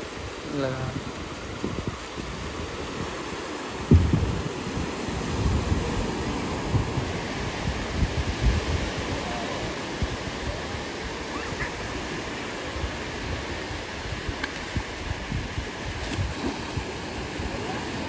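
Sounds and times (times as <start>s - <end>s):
surf breaking on a beach: 0.0s - 18.0s
wind rumble on microphone: 0.0s - 18.0s.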